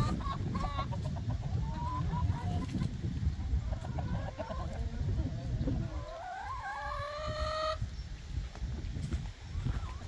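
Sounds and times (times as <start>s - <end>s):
hens clucking: 0.0s - 7.9s, 9.2s - 10.0s.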